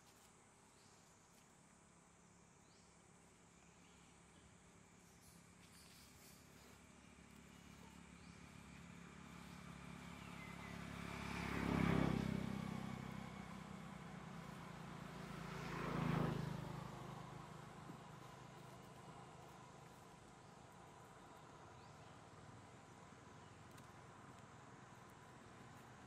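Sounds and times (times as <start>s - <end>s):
motor vehicles passing by: 4.1s - 26.0s.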